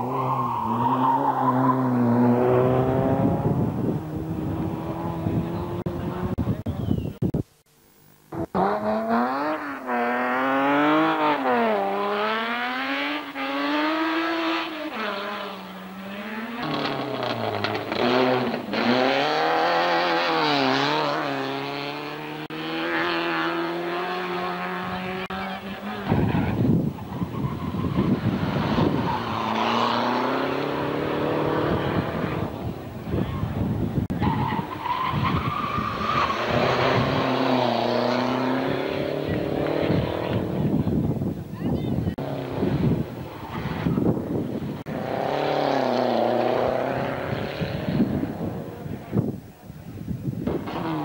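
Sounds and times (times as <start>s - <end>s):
racing car engines revving: 0.0s - 6.7s, 8.3s - 49.3s, 50.4s - 51.0s
rough car engine and tyre noise: 0.0s - 51.0s.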